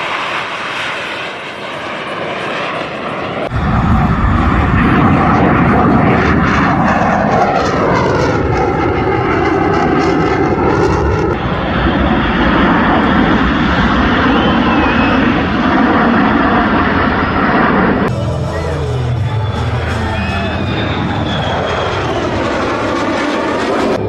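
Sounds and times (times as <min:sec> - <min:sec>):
fighter jet flying past: 0:00.0 - 0:24.0.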